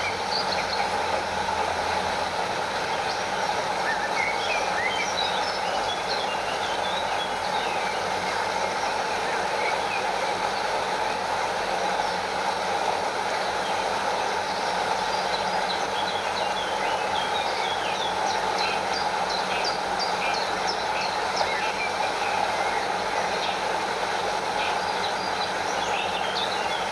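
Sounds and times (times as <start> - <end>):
small waterfall cascading: 0.0 - 26.9
stream water flowing: 0.0 - 26.9.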